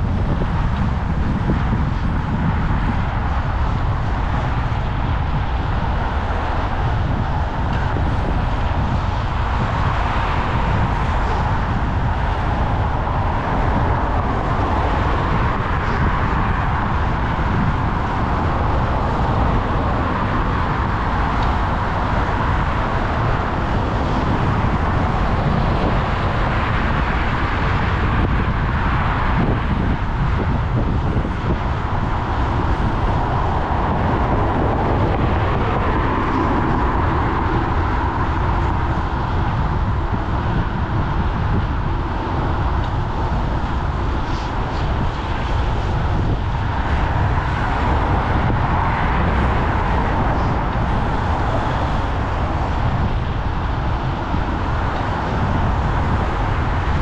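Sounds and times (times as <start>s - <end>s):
road and traffic noise: 0.0s - 57.0s
wind rushing on microphone: 0.0s - 57.0s.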